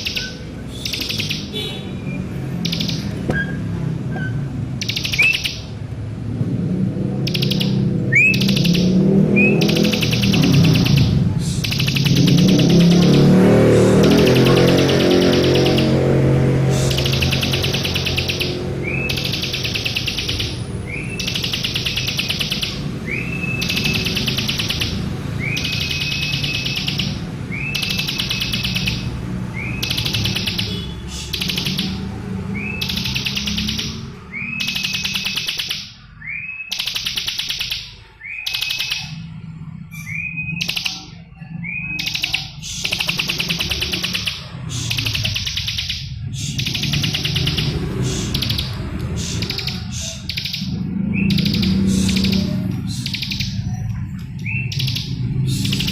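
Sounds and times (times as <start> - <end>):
bird buzzy trill song: 0.0 - 55.9.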